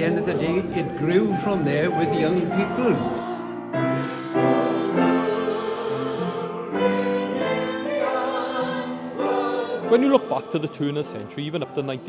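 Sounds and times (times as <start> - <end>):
male choir singing chords: 0.0 - 12.0.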